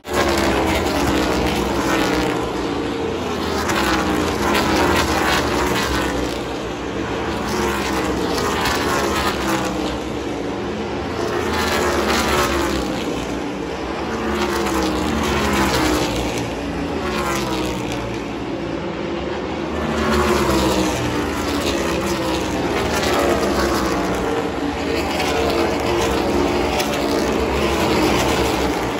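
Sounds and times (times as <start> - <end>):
race cars passing at speed: 0.0 - 28.9.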